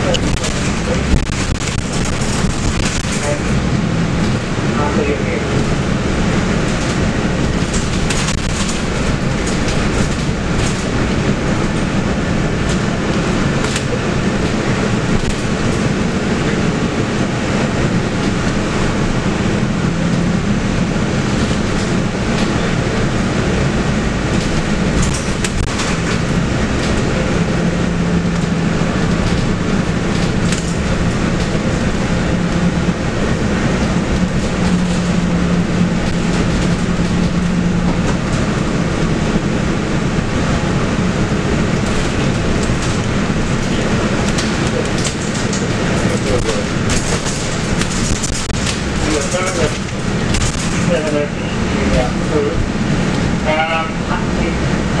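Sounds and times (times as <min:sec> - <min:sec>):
bus engine humming: 0:00.0 - 0:55.0
road noise: 0:00.0 - 0:55.0.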